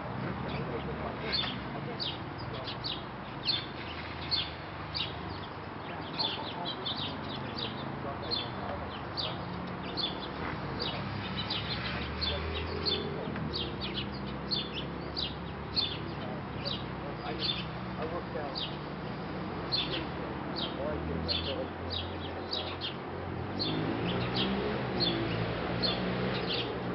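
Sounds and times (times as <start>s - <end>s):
small birds chirping: 0.1s - 26.9s.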